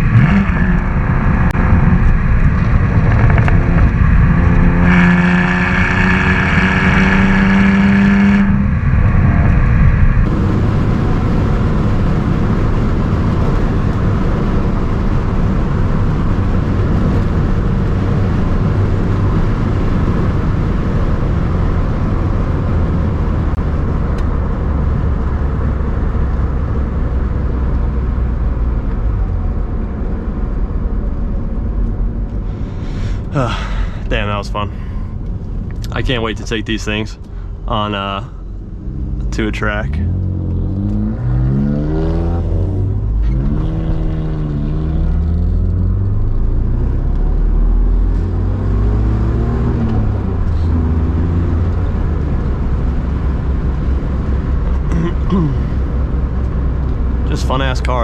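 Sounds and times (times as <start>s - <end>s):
car engine under power: 0.0s - 58.0s
engine and road noise rumble: 0.0s - 58.0s.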